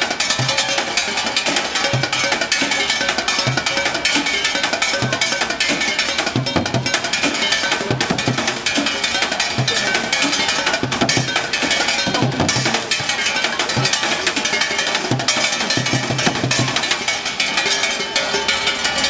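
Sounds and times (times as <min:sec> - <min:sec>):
drumming on cans and pots: 0:00.0 - 0:19.0.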